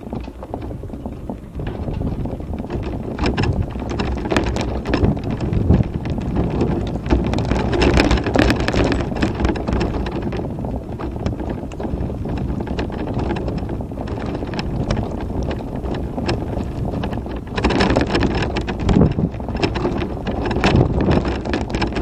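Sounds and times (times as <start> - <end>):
mobility scooter rattling and knocking: 0.0 - 22.0
wind buffeting microphone: 0.0 - 22.0.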